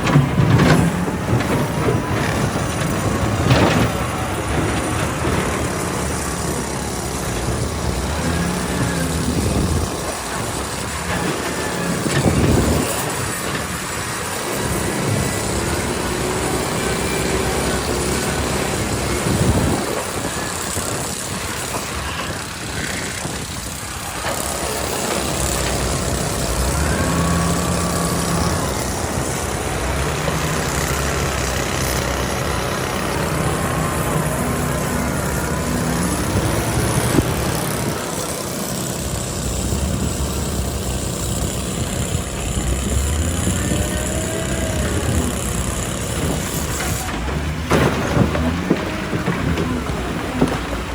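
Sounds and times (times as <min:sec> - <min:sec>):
heavy machinery engine running: 0:00.0 - 0:50.9.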